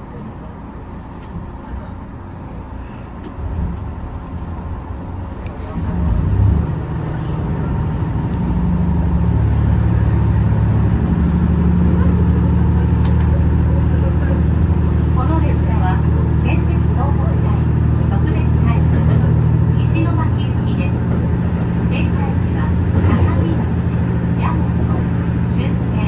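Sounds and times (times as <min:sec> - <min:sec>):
low steady engine tones: 0:00.0 - 0:26.0
railcar running: 0:00.0 - 0:26.0.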